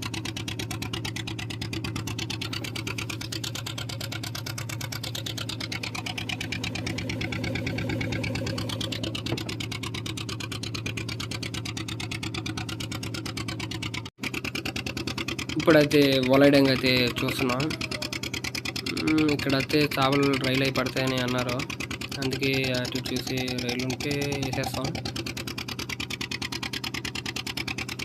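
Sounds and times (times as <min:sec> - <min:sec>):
boat engine knocking steadily: 0:00.0 - 0:28.0.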